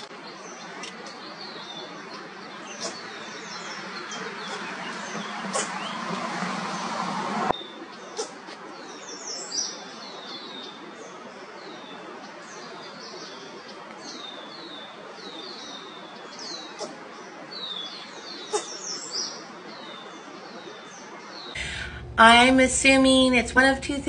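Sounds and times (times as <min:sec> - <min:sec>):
small birds chirping: 0:00.0 - 0:06.5, 0:07.5 - 0:21.6
steady background hiss: 0:00.0 - 0:24.0.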